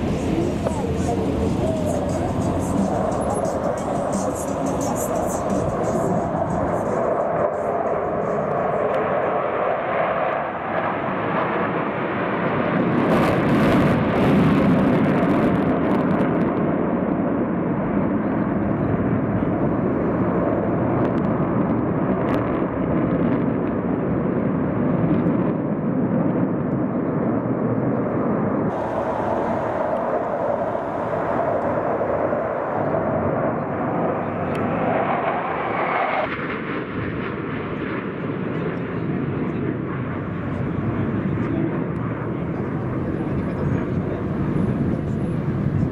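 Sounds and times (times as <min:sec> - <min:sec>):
fighter jets roaring overhead: 0:00.0 - 0:45.9.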